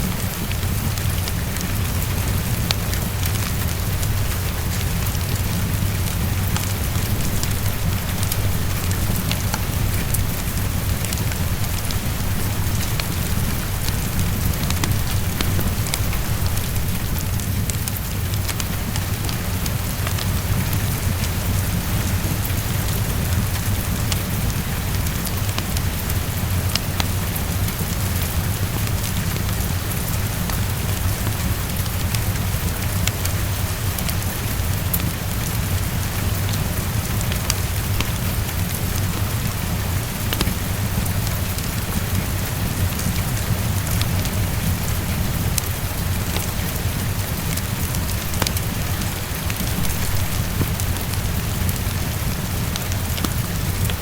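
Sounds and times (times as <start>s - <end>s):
heavy rain against window: 0.0s - 54.0s.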